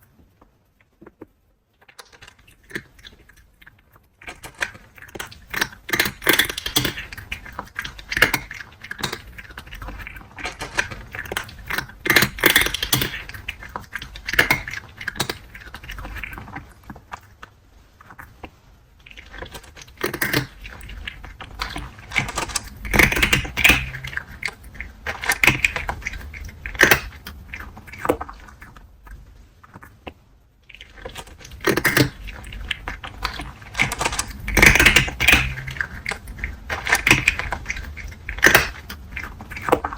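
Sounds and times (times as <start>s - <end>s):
cat chewing dry food: 0.0s - 39.9s.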